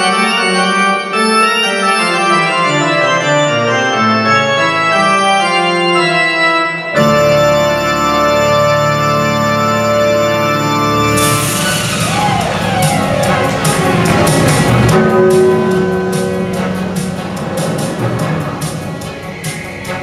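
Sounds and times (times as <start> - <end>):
organ music: 0.0 - 20.0.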